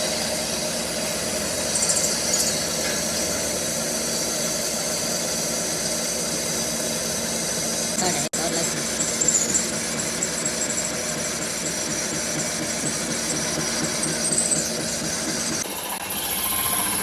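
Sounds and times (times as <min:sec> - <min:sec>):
factory machinery running: 0:00.0 - 0:17.0.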